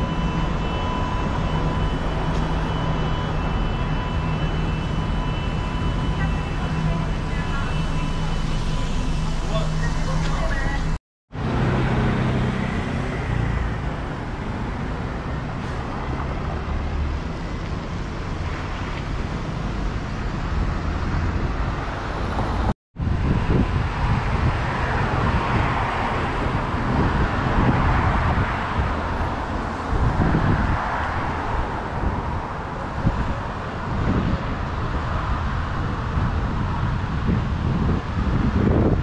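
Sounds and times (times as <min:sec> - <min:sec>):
cars and buses passing: 0:00.0 - 0:39.0.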